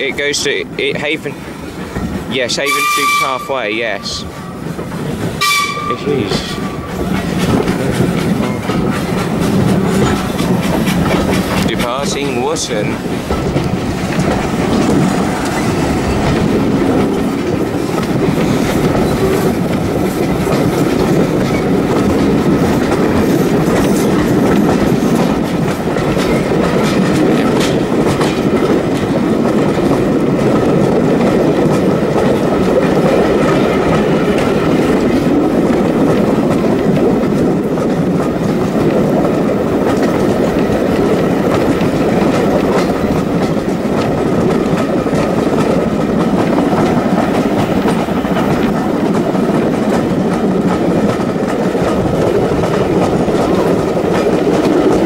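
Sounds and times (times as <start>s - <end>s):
wheels rumbling on rails: 0.0s - 55.0s.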